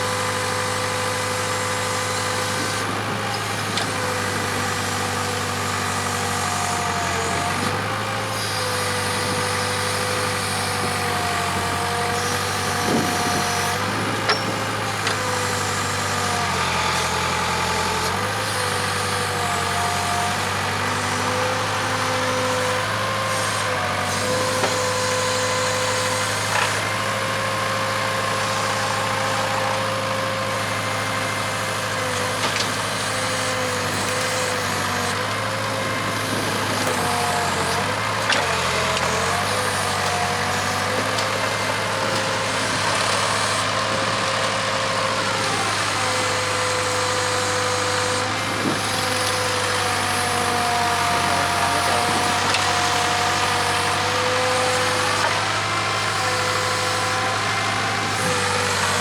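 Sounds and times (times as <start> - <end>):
diesel engine running: 0.0 - 59.0
hydraulic whine: 0.1 - 59.0.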